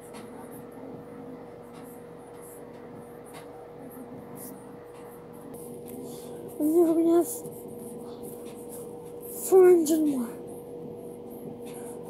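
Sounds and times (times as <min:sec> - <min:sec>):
steady faint hum: 0:00.0 - 0:12.0.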